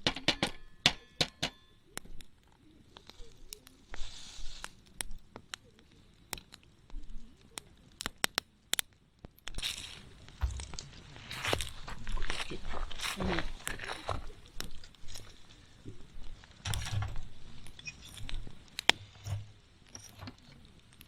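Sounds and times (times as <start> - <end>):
campfire crackling: 0.1 - 21.0
sharp pops of fire: 2.9 - 20.2.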